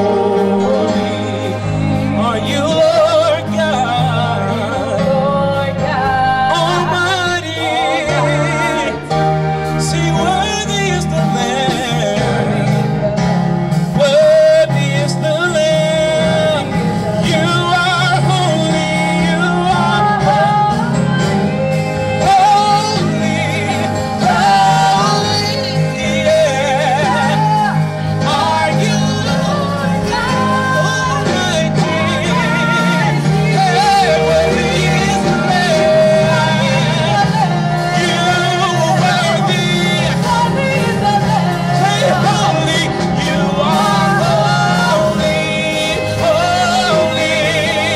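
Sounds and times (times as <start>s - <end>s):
person singing gospel: 0.0s - 47.9s
sustained bass accompaniment: 0.0s - 47.9s.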